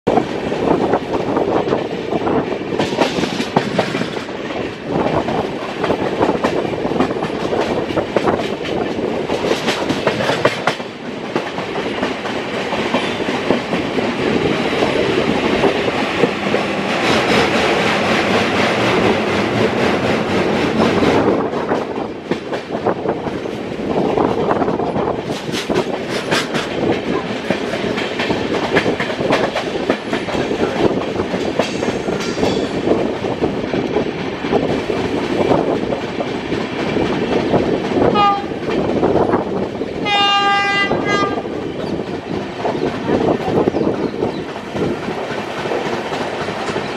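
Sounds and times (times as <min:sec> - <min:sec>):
wind: 0:00.0 - 0:46.9
wheel and rail rumble: 0:00.1 - 0:46.9
wheels clickety-clack over joints: 0:00.1 - 0:46.9.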